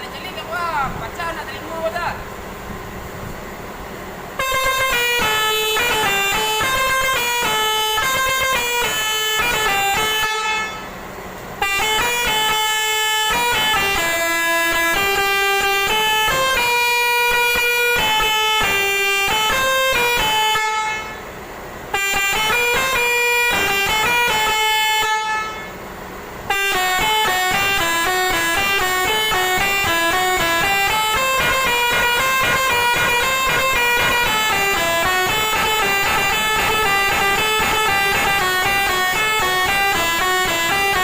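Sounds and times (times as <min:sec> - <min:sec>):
multi-tone bus horn playing a tune: 0:04.3 - 0:41.0.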